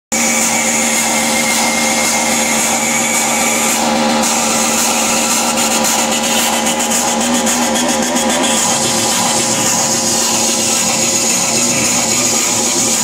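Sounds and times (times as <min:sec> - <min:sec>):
dense electronic noise: 0:00.1 - 0:13.0.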